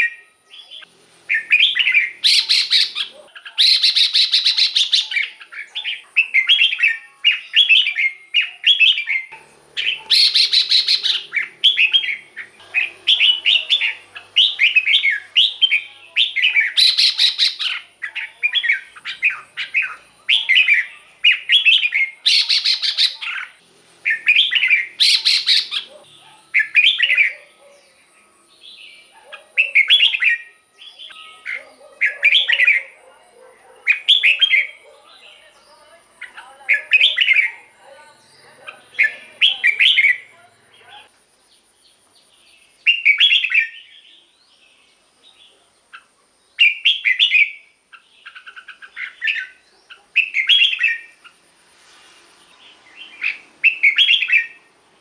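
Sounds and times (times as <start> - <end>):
bird singing warbled phrases: 0.0 - 51.5, 52.4 - 54.8.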